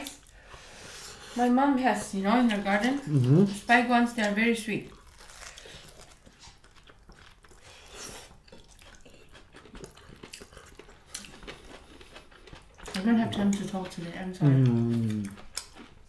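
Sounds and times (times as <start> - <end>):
people chewing food: 0.0 - 16.0.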